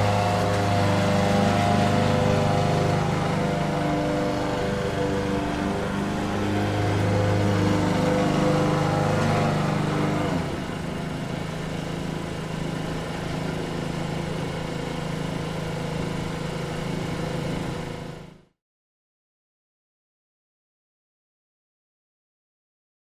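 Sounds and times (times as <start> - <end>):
lawn mower engine running: 0.0 - 18.5.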